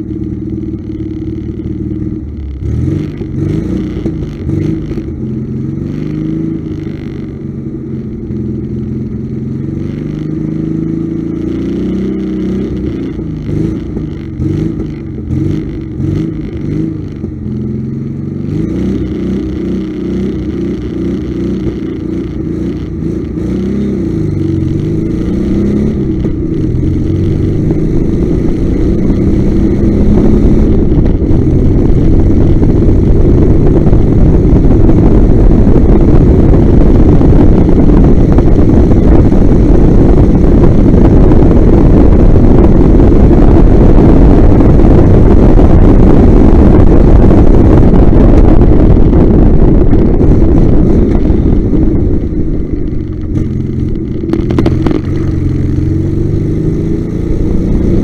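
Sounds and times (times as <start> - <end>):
car accelerating hard: 0.0 - 58.0
car engine revving: 0.0 - 58.0
wind noise on microphone: 0.0 - 58.0.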